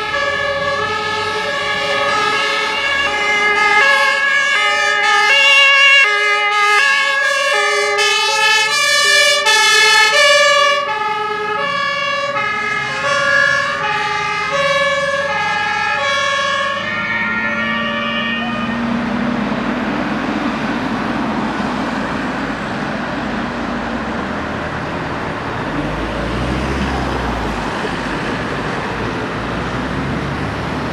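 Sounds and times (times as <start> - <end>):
truck engine and tyre noise: 0.0 - 30.9
two-tone fire engine sirens: 0.0 - 30.9.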